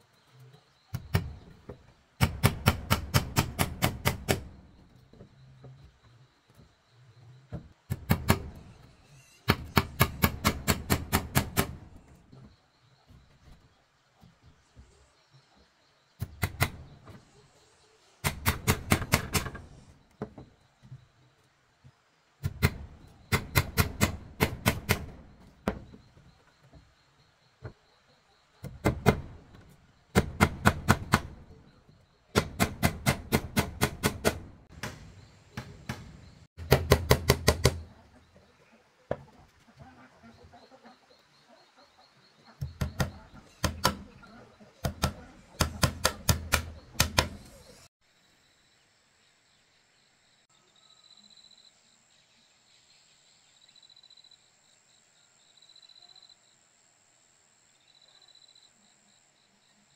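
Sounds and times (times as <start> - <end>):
faint insects chirping: 0.0 - 2.4, 3.0 - 32.8, 37.6 - 59.9.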